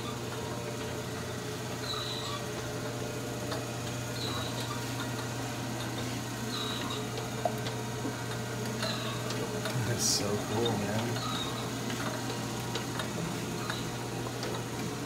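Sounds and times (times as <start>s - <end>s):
engine turning with low hum: 0.0s - 15.0s.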